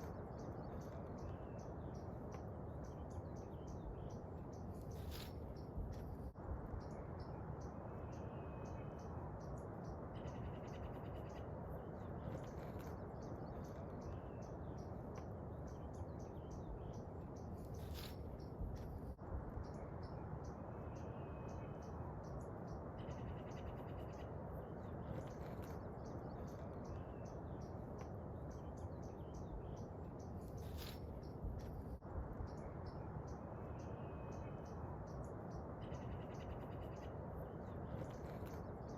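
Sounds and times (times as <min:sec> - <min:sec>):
low rushing background: 0:00.0 - 0:38.9
small birds chirping: 0:00.0 - 0:38.9.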